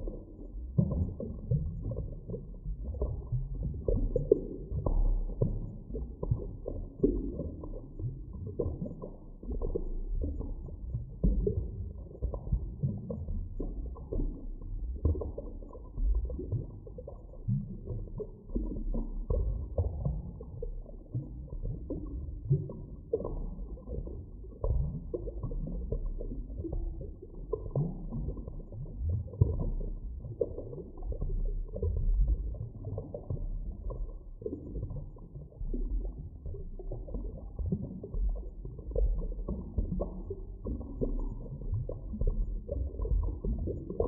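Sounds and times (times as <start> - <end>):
underwater deep rumble: 0.0 - 44.0
underwater gurgles and pops: 0.0 - 44.0.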